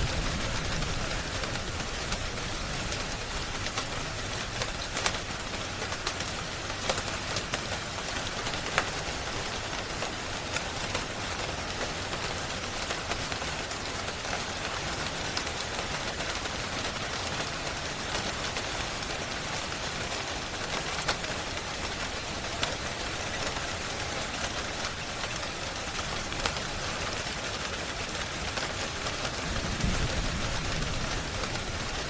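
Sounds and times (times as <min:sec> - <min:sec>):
dense rain hiss: 0:00.0 - 0:32.0
wood fire crackling: 0:00.0 - 0:32.0.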